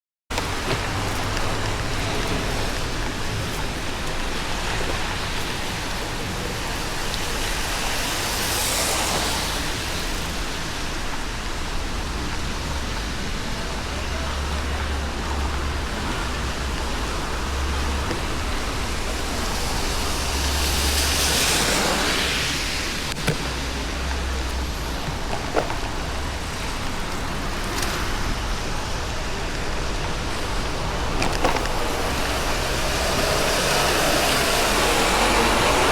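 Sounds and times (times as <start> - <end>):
rain hiss on wet road: 0.3 - 35.9
vehicles swishing past: 0.3 - 35.9.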